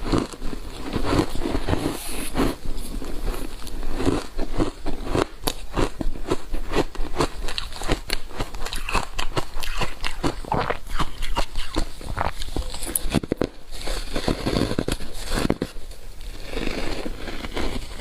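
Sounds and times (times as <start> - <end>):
ice being bitten and chewed: 0.0 - 18.0.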